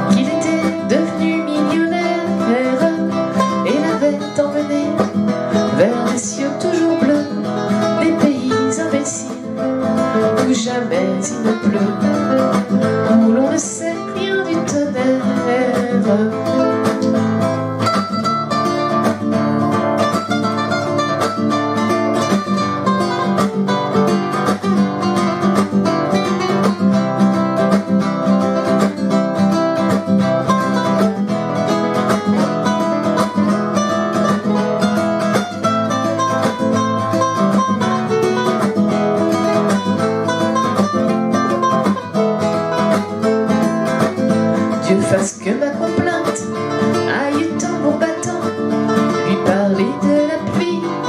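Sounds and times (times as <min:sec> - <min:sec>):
acoustic guitars playing: 0:00.0 - 0:51.0.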